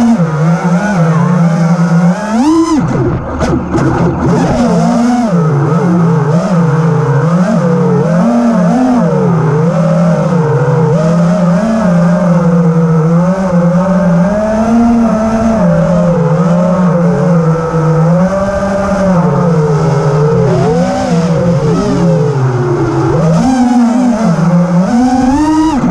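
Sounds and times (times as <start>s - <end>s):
drone motors whining: 0.0s - 25.9s.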